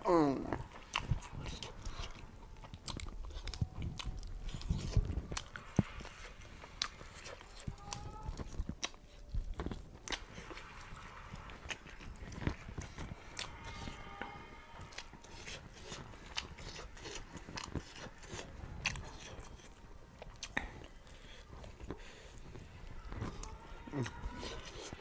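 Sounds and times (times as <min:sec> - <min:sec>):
person chewing meat: 0:00.0 - 0:25.0.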